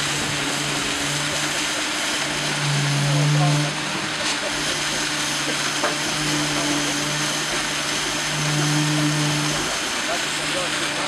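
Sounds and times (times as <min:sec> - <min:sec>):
concrete vibrator motor hum: 0:00.0 - 0:11.0.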